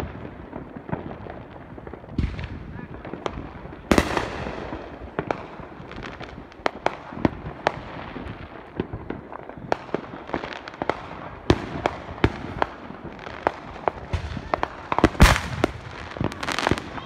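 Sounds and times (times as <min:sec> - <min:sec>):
fireworks bangs and pops: 0:00.0 - 0:17.0
rumble of distant fireworks: 0:00.0 - 0:17.0.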